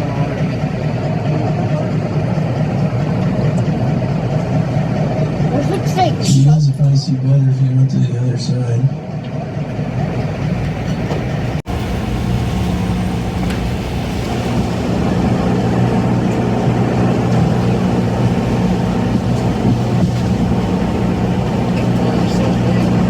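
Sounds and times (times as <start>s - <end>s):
broad rush of noise: 0.0s - 6.4s, 9.0s - 23.0s
boat engine droning: 0.0s - 6.6s, 9.0s - 23.0s.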